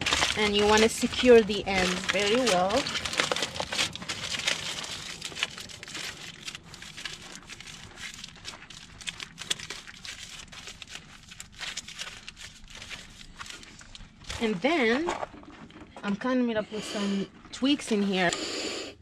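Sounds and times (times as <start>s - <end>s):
aluminum foil crinkling: 0.0s - 16.0s.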